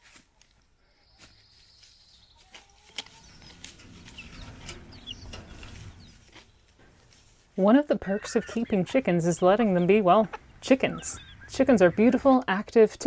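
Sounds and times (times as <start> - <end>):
hens clucking: 2.2 - 13.0.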